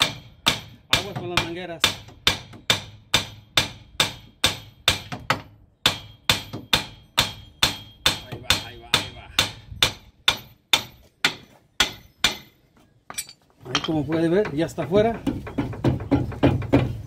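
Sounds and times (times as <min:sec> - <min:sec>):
hammer striking metal: 0:00.0 - 0:14.2.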